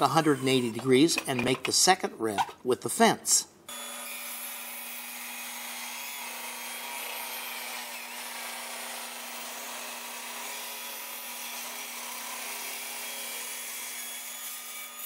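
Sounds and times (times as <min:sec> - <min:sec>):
table saw ripping hardwood: 0:00.0 - 0:01.8, 0:03.7 - 0:15.0.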